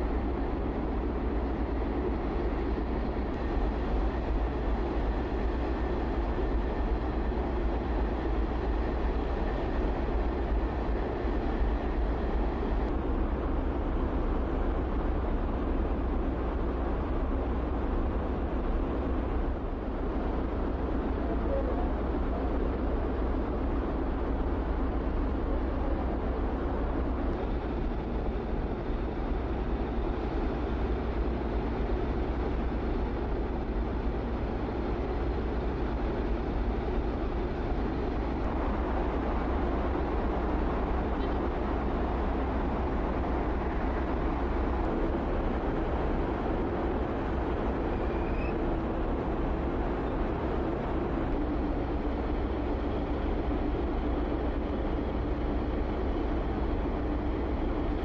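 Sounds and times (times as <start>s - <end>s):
ferry engines rumbling drone: 0.0s - 58.0s.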